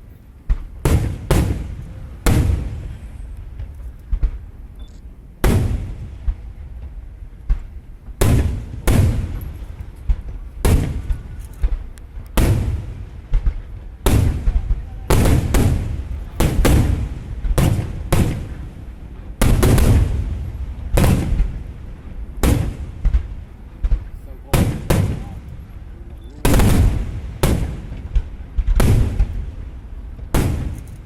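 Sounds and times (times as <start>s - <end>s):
fireworks bursting with booming bangs: 0.0s - 4.7s, 5.4s - 31.0s.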